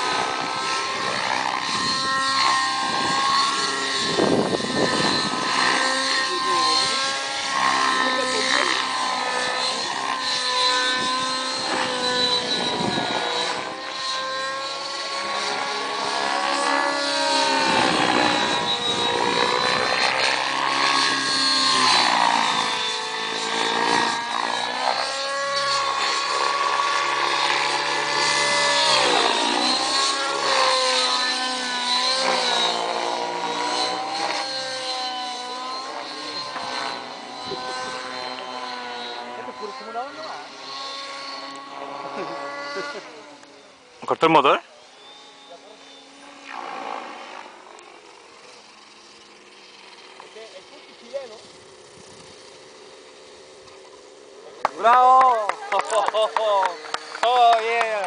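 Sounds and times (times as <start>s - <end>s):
model helicopter engine and rotors: 0.0s - 58.0s.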